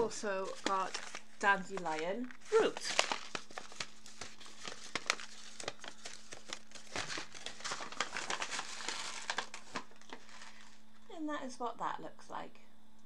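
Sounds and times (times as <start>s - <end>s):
paper bag crinkling: 0.0s - 10.8s.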